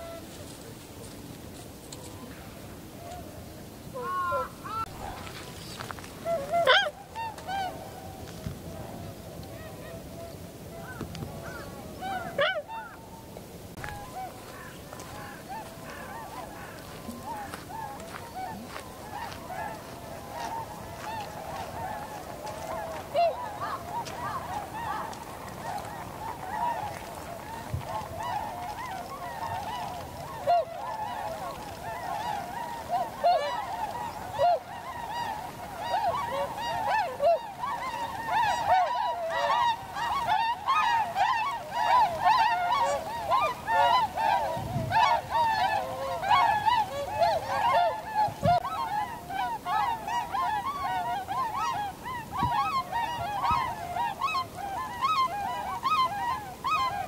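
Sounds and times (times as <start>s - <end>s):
swans honking: 0.0s - 57.0s.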